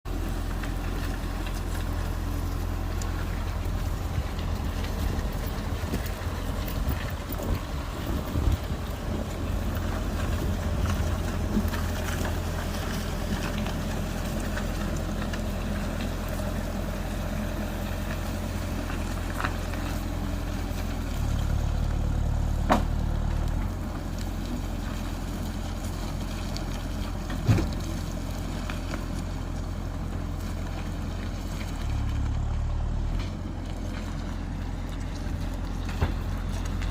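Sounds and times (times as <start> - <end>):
diesel engine rumbling: 0.0 - 36.9.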